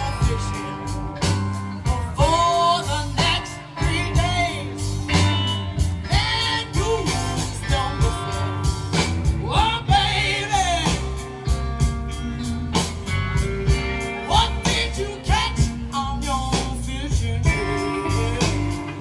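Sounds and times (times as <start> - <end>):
song with singing over guitar: 0.0 - 19.0.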